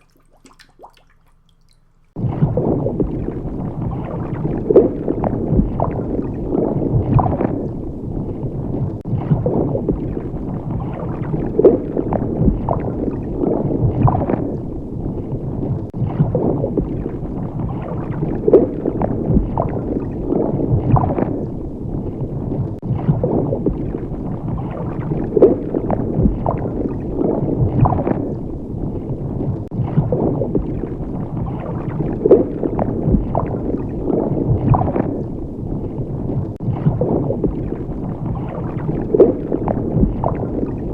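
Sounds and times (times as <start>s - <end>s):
water bubbling and gurgling: 0.0s - 40.9s.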